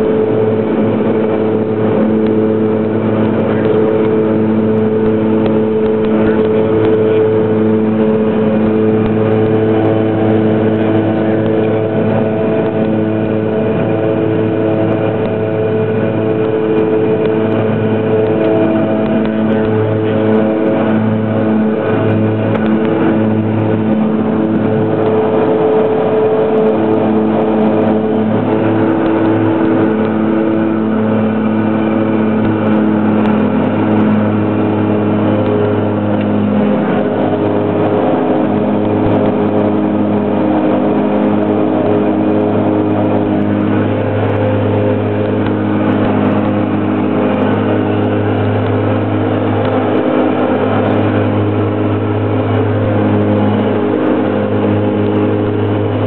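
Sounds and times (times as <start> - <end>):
propeller hum: 0.0 - 56.0
turboprop engines droning: 0.0 - 56.0.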